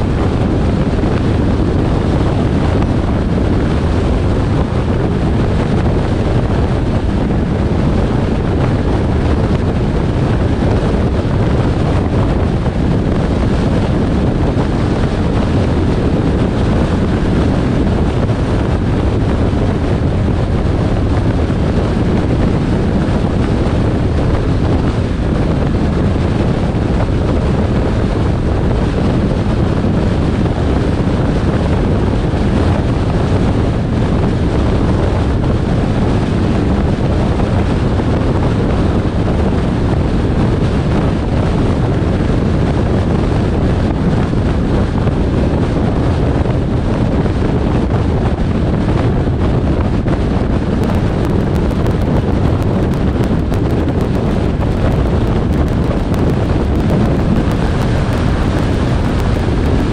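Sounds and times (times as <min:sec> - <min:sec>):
car road noise: 0:00.0 - 0:47.0, 0:48.8 - 0:59.9
wind rumbling on microphone: 0:00.0 - 0:59.9.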